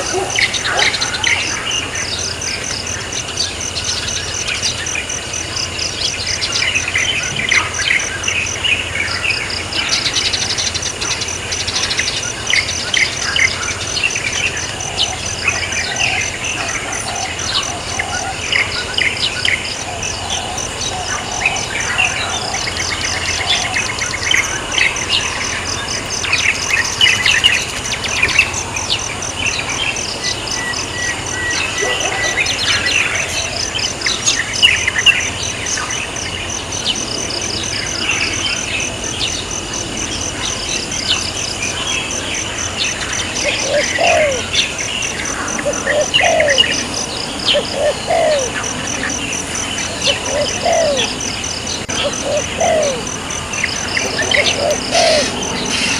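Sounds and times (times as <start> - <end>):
birds chirping and twittering: 0.0 - 55.9
insect chorus: 0.0 - 55.9
pulsed high insect trill: 0.0 - 55.9.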